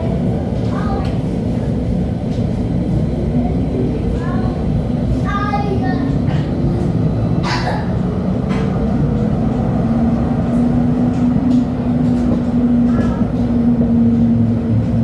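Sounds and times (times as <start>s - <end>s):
light-rail car rumbling: 0.0s - 15.0s.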